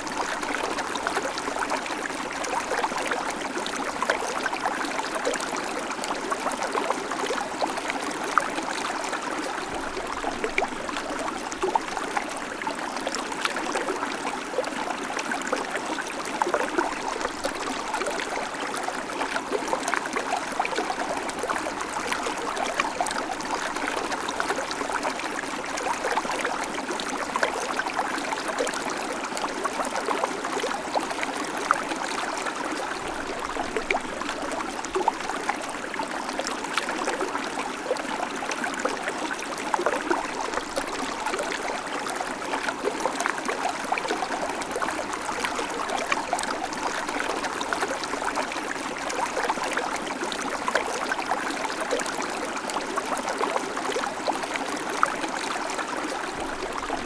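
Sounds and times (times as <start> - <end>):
creek water running over stones: 0.0 - 57.0.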